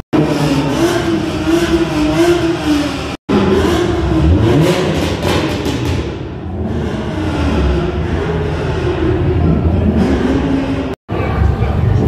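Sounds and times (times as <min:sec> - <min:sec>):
car accelerating away: 0:00.2 - 0:10.9.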